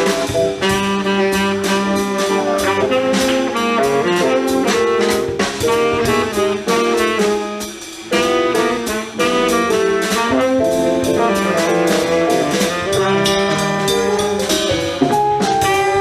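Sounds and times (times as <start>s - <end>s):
drums with cymbals: 0.0s - 16.0s
saxophone playing: 0.0s - 16.0s
walking bass: 0.0s - 16.0s.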